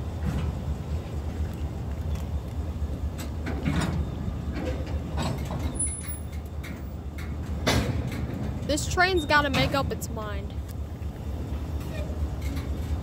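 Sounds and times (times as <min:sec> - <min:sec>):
boxcars knocking and creaking: 0:00.0 - 0:13.0
train low rumble: 0:00.0 - 0:13.0.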